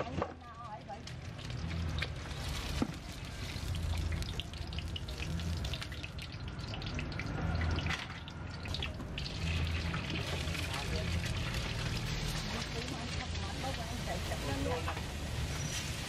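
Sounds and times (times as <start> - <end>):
egg sizzling in hot oil: 0.7 - 16.0.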